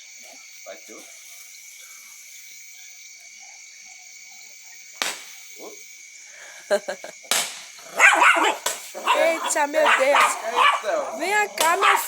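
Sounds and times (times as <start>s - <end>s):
frogs calling: 0.0s - 12.0s
night insects chorus: 0.0s - 12.0s.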